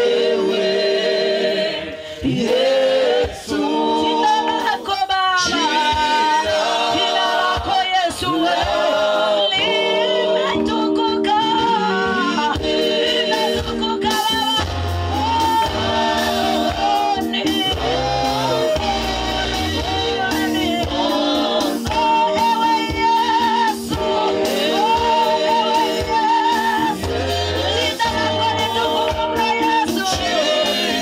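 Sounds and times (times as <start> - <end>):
gospel music with bass: 0.0 - 31.0
people singing along: 0.0 - 31.0
woman singing into microphone: 3.2 - 31.0.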